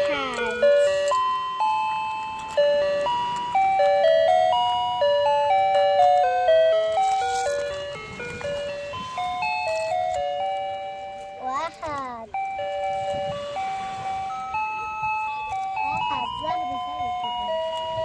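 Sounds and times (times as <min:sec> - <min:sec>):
toy playing beeping electronic melody: 0:00.0 - 0:18.0.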